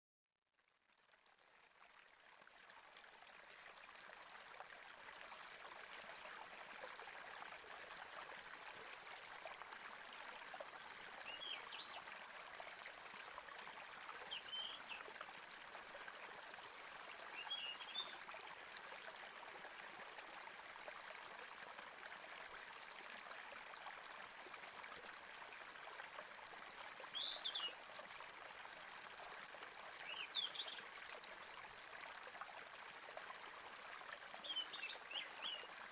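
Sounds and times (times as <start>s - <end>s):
trickling stream water: 0.4s - 35.9s.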